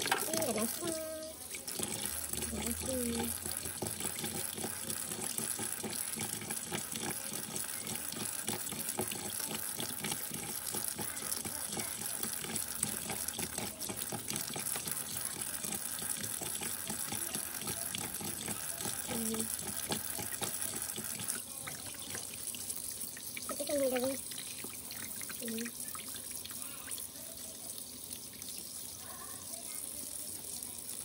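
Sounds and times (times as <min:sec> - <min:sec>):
tap water running into sink: 0:00.0 - 0:31.0.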